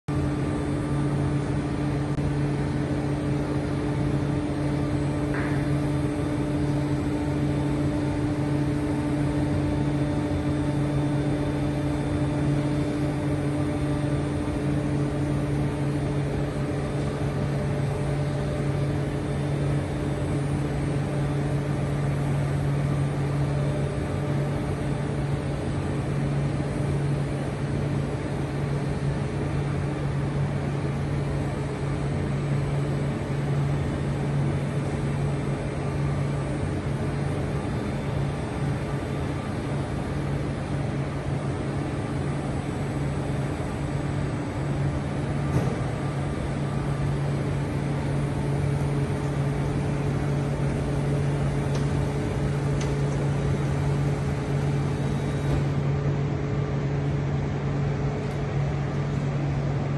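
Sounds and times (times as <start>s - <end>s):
press machine humming: 0.1s - 59.8s.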